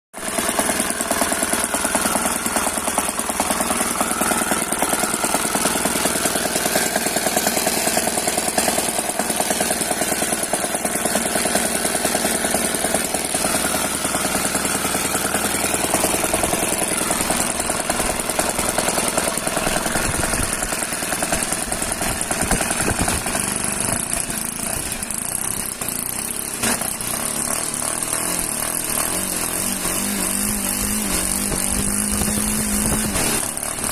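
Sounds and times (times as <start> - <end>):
model aircraft engine running: 0.2 - 33.9.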